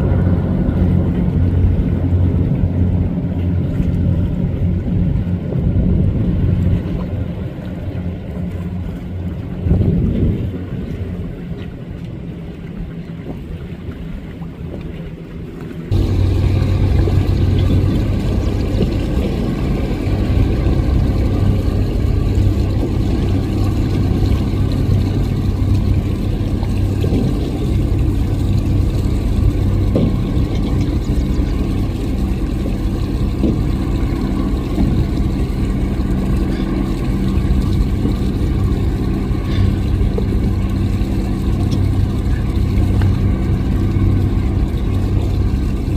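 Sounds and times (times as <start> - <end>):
speedboat engines running: 0.0 - 45.9.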